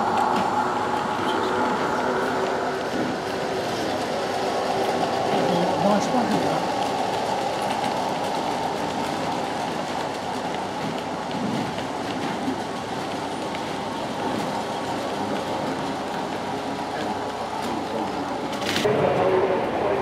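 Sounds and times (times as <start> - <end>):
model train wheels rolling on rails: 0.0 - 18.9.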